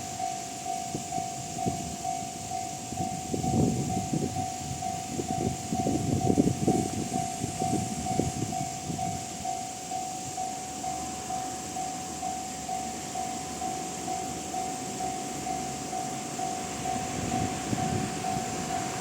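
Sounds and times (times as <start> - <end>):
level-crossing alarm tone: 0.0 - 19.0
train rumbling over crossing: 0.0 - 19.0.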